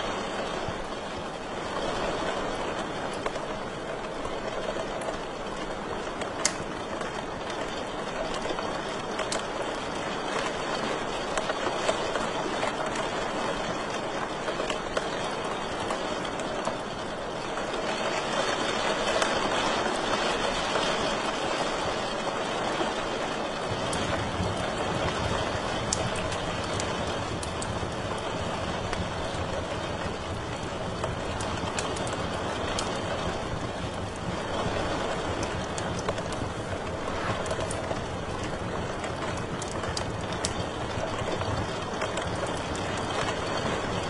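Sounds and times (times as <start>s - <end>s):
fire crackling: 0.0s - 44.0s
fire popping: 0.1s - 20.7s, 23.6s - 44.0s.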